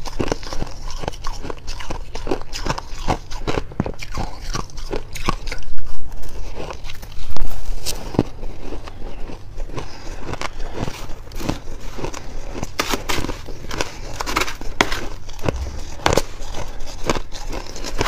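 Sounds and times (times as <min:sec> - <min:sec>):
chewing shaved ice: 0:00.0 - 0:18.0.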